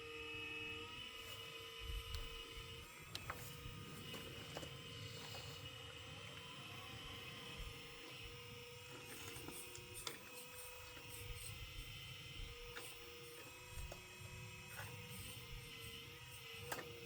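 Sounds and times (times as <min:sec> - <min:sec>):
electric gear motors whining: 0:00.0 - 0:17.0.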